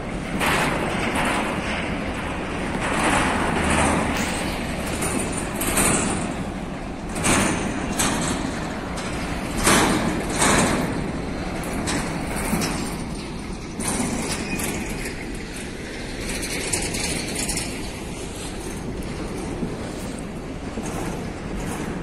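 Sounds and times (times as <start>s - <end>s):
train wagons rolling on rails: 0.0s - 22.0s.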